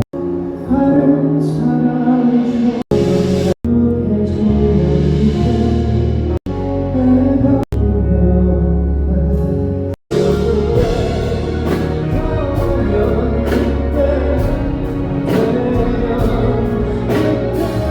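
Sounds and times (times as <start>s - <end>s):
band accompaniment: 0.0s - 7.1s, 9.4s - 17.9s
man singing pop ballad: 0.5s - 6.1s, 6.8s - 17.9s.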